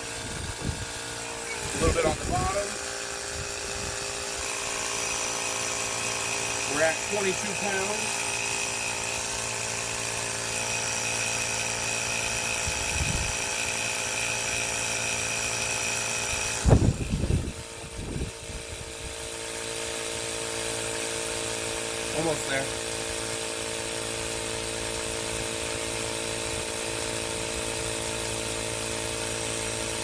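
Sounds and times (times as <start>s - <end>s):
air compressor motor running: 0.0s - 30.0s.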